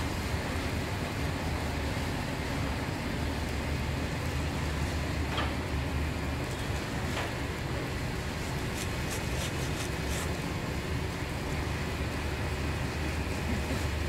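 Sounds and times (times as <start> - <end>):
low hum of bakery machinery: 0.0 - 14.0.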